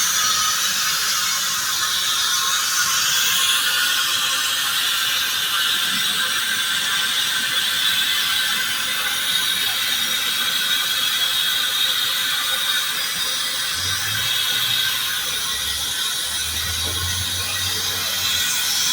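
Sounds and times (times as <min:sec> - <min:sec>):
steam vent hissing: 0:00.0 - 0:18.9.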